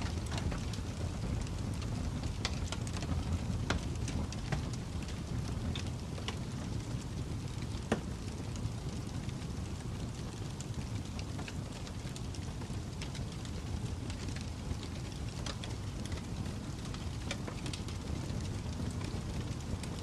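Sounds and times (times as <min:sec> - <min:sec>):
fire popping and snapping: 0:00.0 - 0:20.0.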